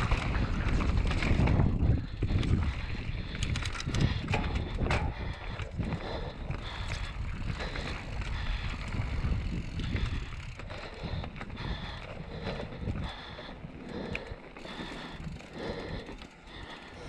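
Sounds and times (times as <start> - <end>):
bike rattling over bumps: 0.0 - 17.0
bike tyres crunching over dirt: 0.0 - 17.0
wind buffeting microphone: 0.0 - 17.0.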